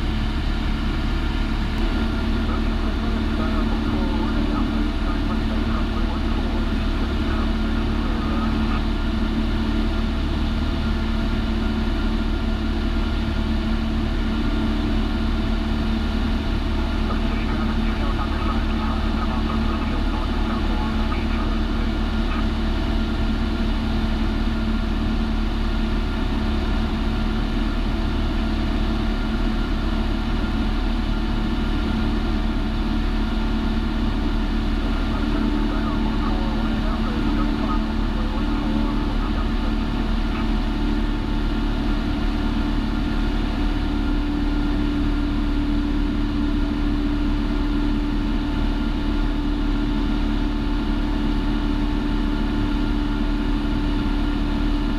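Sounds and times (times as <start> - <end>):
light airplane engine drone: 0.0 - 54.9.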